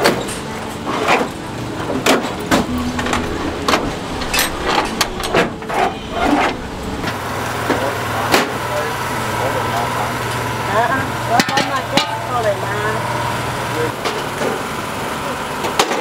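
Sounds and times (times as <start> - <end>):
low engine-like hum: 0.0 - 15.8.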